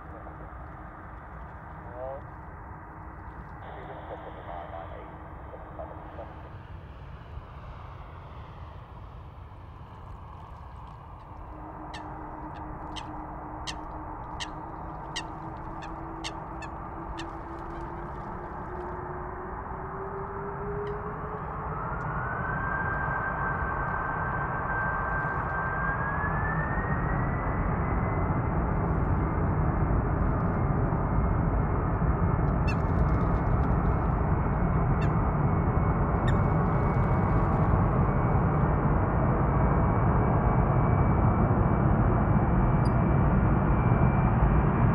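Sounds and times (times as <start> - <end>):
distant jet engines rumbling: 0.0 - 44.9.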